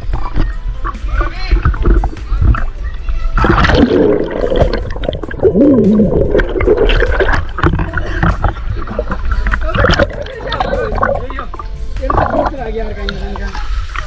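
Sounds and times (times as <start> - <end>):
music playing: 0.0 - 14.0
pool water splashing and gurgling: 0.0 - 14.0.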